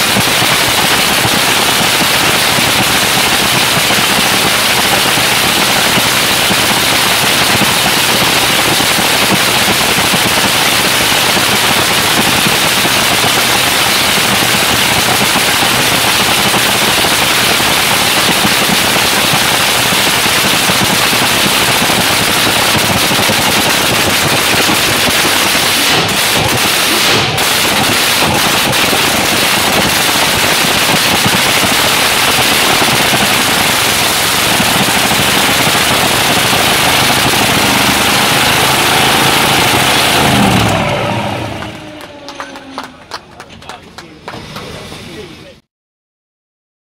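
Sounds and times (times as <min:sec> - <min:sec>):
drag car engine crackling: 0:00.0 - 0:45.6.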